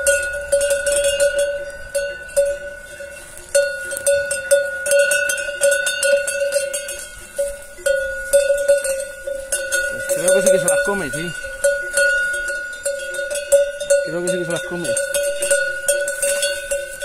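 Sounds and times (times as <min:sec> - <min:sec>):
cowbell clanking: 0:00.0 - 0:17.0.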